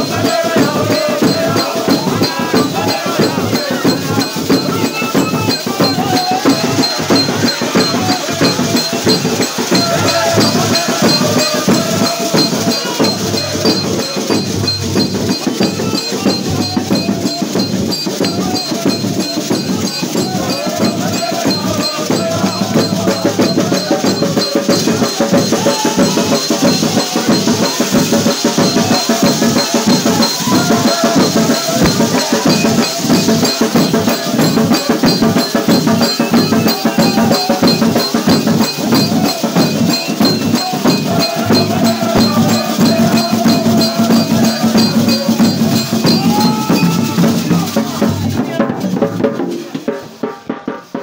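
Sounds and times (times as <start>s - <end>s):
group singing: 0.0s - 50.5s
drums and shakers beat: 0.0s - 51.0s.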